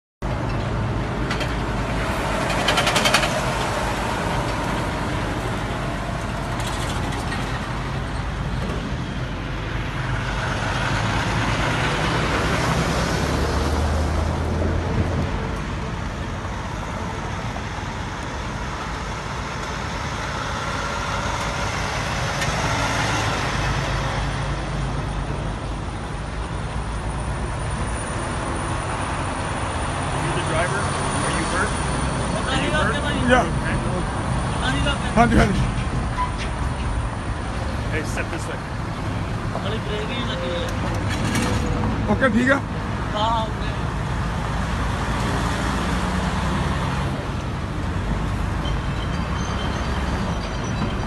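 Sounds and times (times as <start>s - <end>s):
road traffic noise: 0.2s - 51.0s.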